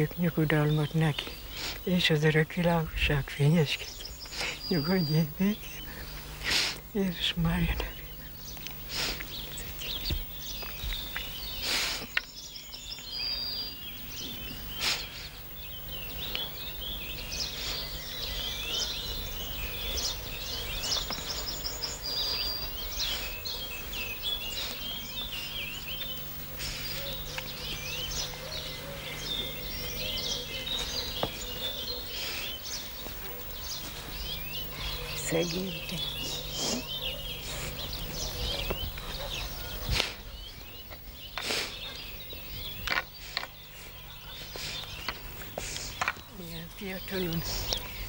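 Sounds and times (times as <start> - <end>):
songbirds chirping: 0.0 - 48.0
steady low hum: 0.0 - 48.0.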